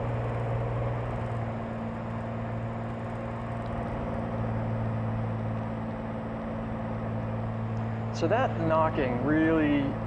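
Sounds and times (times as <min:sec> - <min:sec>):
aircraft engine droning rough: 0:00.0 - 0:10.0.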